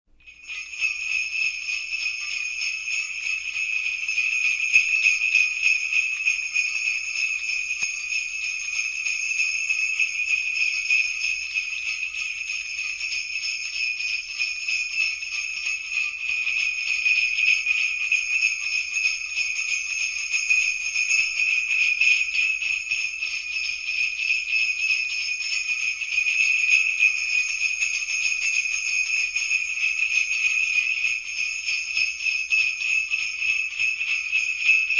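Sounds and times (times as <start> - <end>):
sleigh bells jingling: 0.2 - 34.9.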